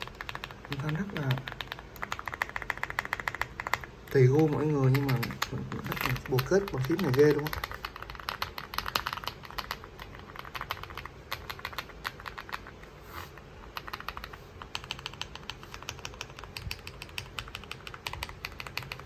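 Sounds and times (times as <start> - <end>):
mechanical keyboard typing: 0.0 - 12.7, 13.4 - 19.0.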